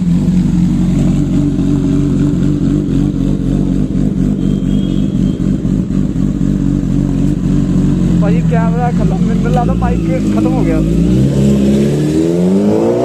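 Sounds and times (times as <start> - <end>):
motorcycle engine idling: 0.0 - 11.5.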